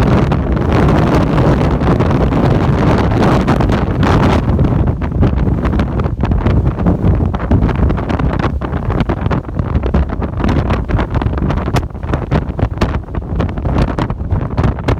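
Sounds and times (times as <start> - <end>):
strong wind buffeting microphone: 0.0 - 14.9.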